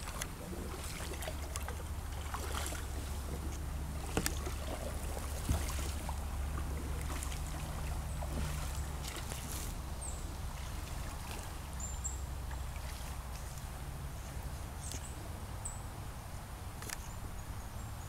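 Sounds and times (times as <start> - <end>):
paddle strokes splashing: 0.0 - 14.8
steady low rumble: 0.0 - 18.0.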